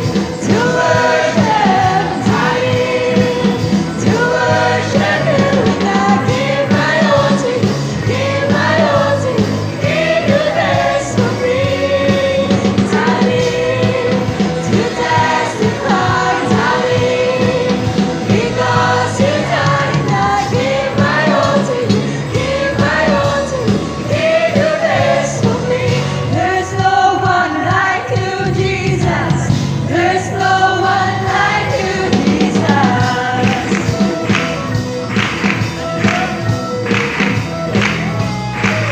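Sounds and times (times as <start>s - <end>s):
choir singing gospel in unison: 0.0s - 36.6s
live band accompaniment: 0.0s - 38.9s.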